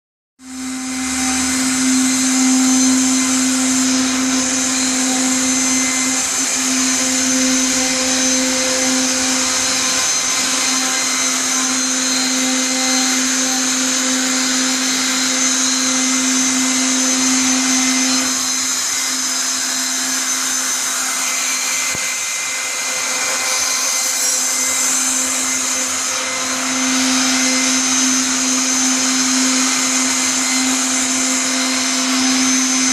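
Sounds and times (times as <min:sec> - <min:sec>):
cnc machine motor whine: 0:00.4 - 0:32.9.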